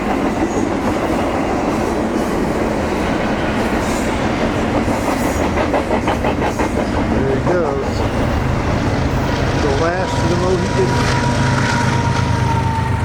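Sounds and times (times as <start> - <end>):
train rolling on track: 0.0 - 13.0.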